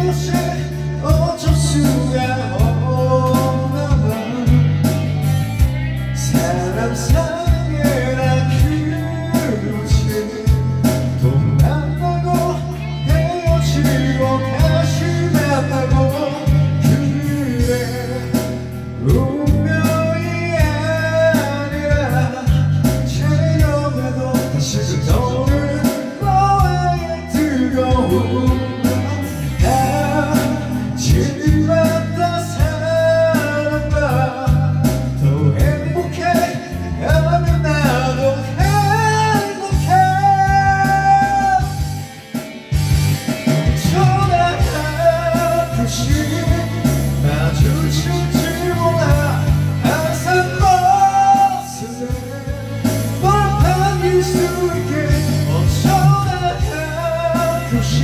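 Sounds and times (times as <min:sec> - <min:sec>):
singer with rock band: 0:00.0 - 0:58.0.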